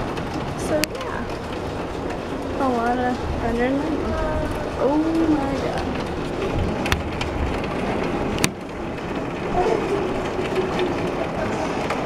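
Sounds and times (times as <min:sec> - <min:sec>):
heavy rain pouring: 0:00.0 - 0:12.0
low thunder rumble: 0:00.0 - 0:12.0.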